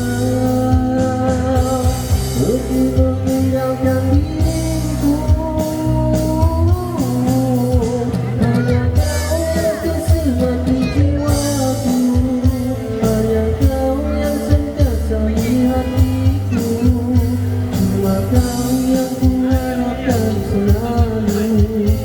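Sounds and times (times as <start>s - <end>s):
pop ballad with band: 0.0s - 22.0s.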